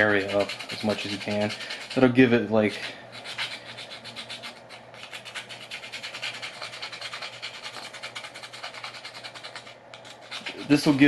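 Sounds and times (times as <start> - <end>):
file scraping metal: 0.0 - 11.0.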